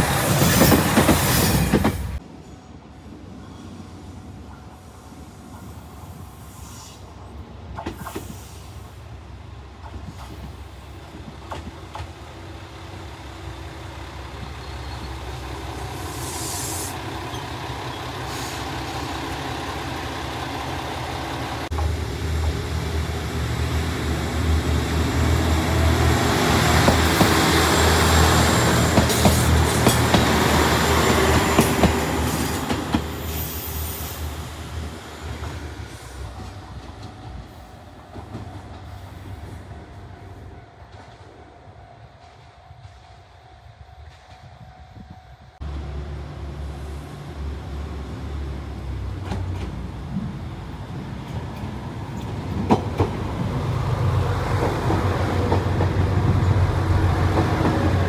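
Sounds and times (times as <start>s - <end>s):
diesel train engine rumble: 0.0s - 58.0s.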